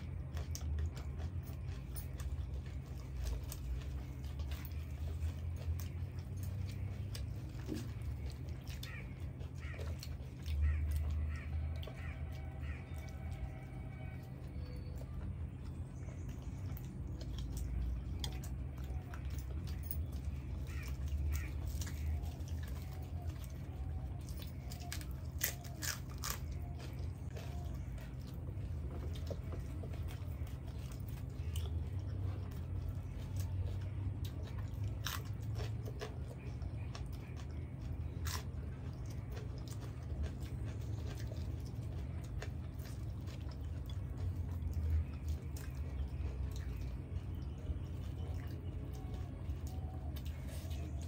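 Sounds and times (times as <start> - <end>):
biting and chewing food: 0.0 - 51.0
low hum: 0.0 - 51.0.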